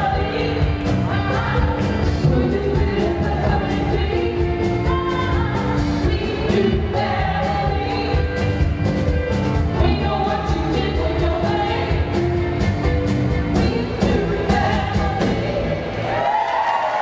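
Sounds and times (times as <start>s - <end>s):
women singing: 0.0s - 8.6s, 9.7s - 12.4s, 13.4s - 16.2s
live band playing disco-pop: 0.0s - 16.3s.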